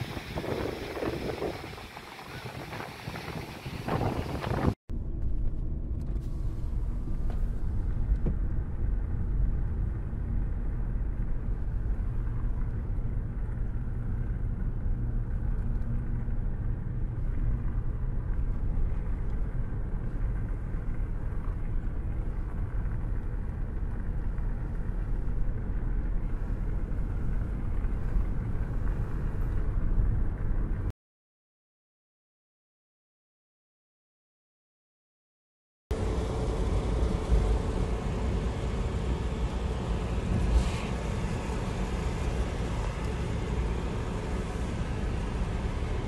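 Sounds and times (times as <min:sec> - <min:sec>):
car engine and tyres rumbling: 0:00.0 - 0:30.9, 0:35.9 - 0:46.0.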